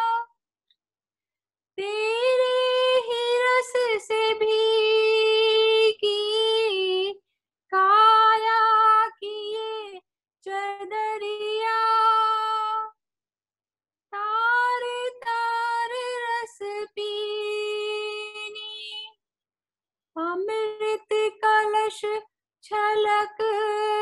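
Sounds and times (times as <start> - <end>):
woman singing unaccompanied: 0.0 - 0.3, 1.8 - 13.0, 14.2 - 19.1, 20.2 - 24.0.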